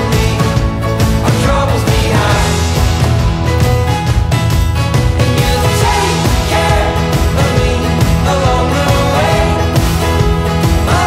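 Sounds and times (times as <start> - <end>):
pop-rock music with a beat: 0.0 - 11.0.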